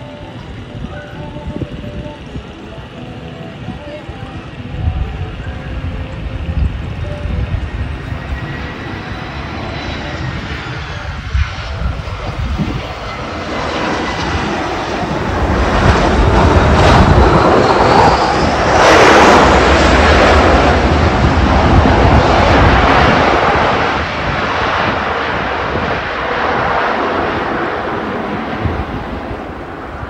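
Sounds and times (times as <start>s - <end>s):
jet engines with rising whine: 0.0s - 30.0s.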